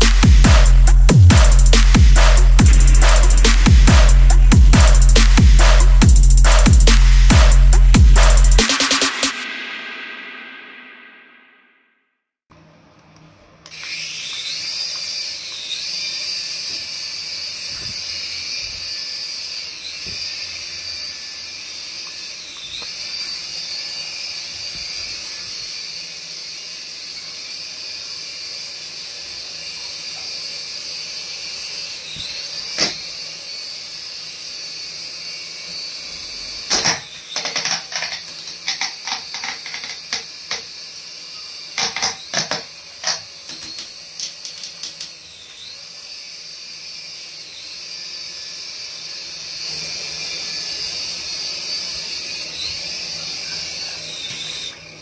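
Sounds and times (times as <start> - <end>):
toy helicopter motor whine: 0.0 - 11.5, 13.6 - 55.0.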